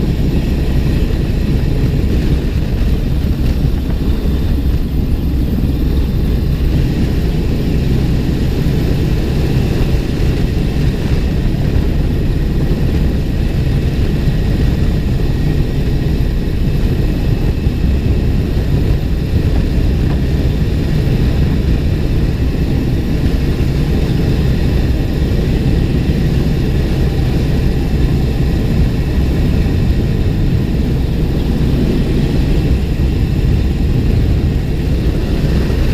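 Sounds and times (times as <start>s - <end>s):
helicopter hovering drone: 0.0s - 35.9s.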